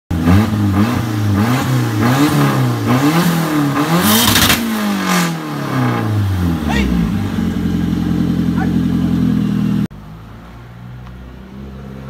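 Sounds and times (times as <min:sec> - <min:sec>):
car engine revving: 0:00.1 - 0:12.0.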